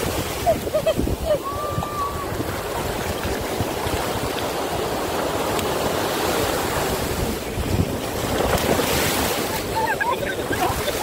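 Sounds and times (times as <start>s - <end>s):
surf washing on sand: 0.0s - 11.0s
wind rumble on microphone: 0.0s - 11.0s.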